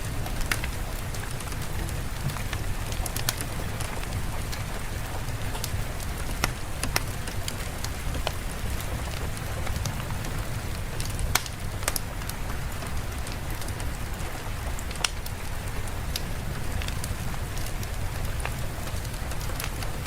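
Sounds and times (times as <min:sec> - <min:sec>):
sharp ticks of raindrops: 0:00.0 - 0:20.0
steady rain falling: 0:00.0 - 0:20.0.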